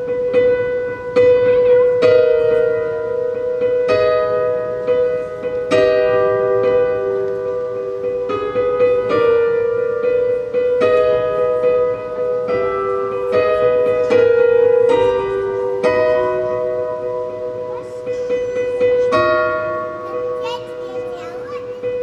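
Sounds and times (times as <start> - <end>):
slow piano melody over chords: 0.0 - 22.0.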